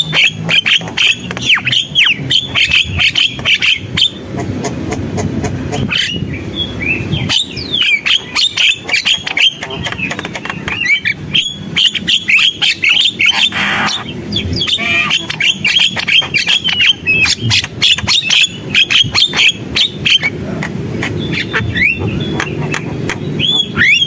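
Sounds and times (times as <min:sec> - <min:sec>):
bird singing chatter: 0:00.0 - 0:04.4, 0:05.7 - 0:24.0.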